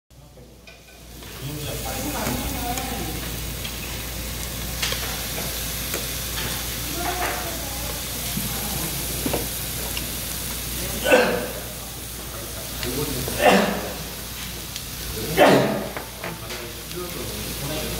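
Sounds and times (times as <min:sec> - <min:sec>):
meat sizzling on a griddle: 0:00.2 - 0:17.9.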